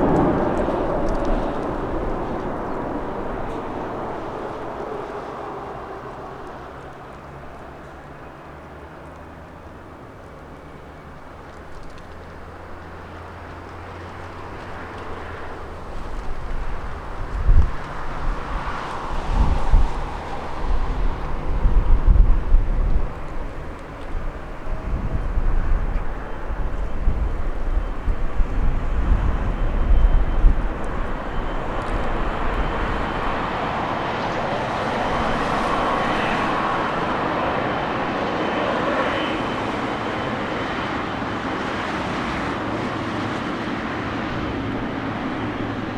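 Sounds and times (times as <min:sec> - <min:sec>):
wind buffeting microphone: 0:00.0 - 0:08.6, 0:11.0 - 0:45.9
jet engines rumbling: 0:00.0 - 0:45.9.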